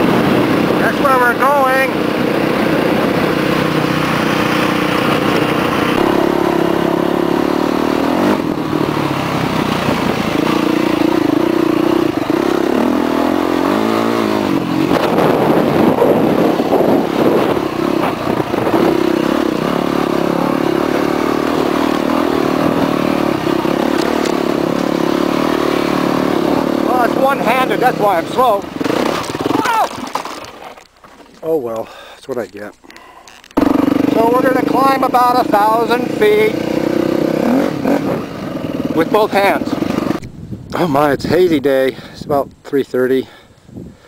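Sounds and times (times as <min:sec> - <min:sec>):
dirt bike engine running: 0:00.0 - 0:31.4, 0:33.6 - 0:40.9.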